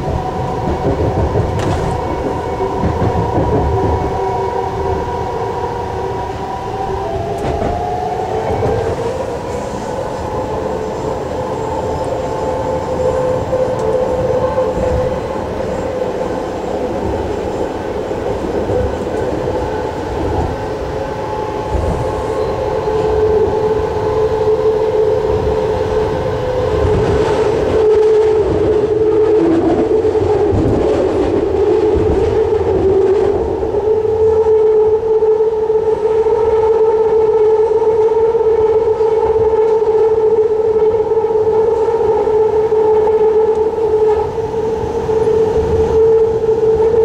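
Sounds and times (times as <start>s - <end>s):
held whine: 0.0s - 47.0s
train wheels rumbling on rail: 0.0s - 47.0s.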